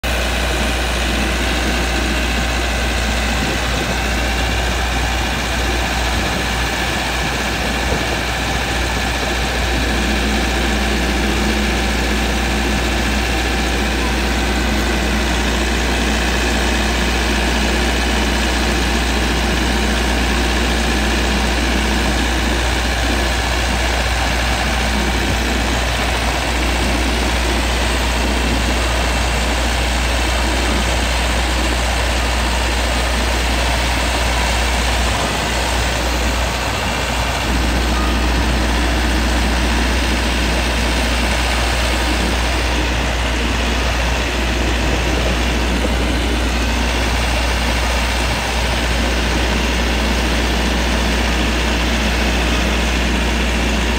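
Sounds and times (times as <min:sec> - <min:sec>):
generator humming: 0:00.0 - 0:53.9.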